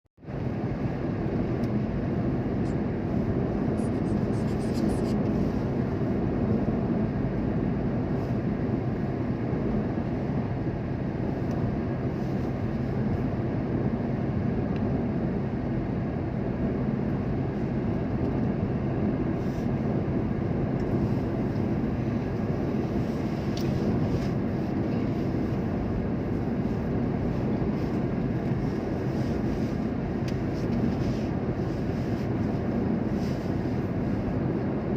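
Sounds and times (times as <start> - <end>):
vehicle driving rumble: 0.2 - 34.9.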